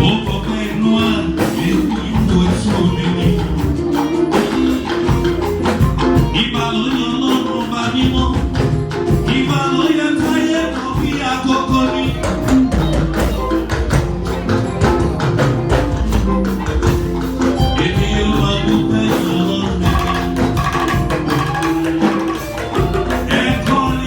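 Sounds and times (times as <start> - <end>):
drum strokes: 0.0 - 24.0
held melodic notes: 0.0 - 24.0.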